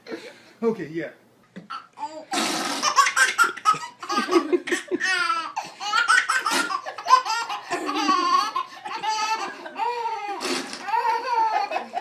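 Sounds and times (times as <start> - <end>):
baby laughing: 1.7 - 12.0.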